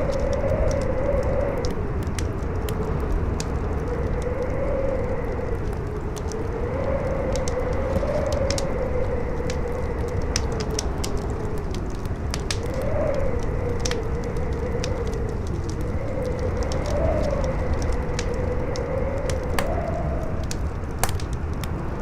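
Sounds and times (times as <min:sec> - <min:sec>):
campfire crackling and popping: 0:00.0 - 0:22.0
strong wind howling: 0:00.0 - 0:22.0.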